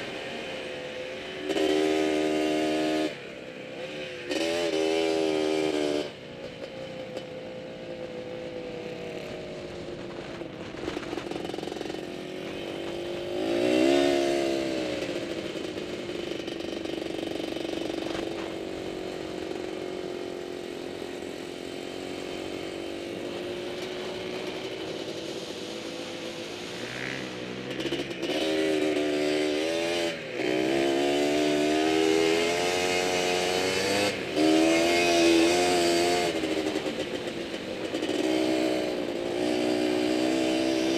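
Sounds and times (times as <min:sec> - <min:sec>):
quad engine running and revving: 0:00.0 - 0:40.9.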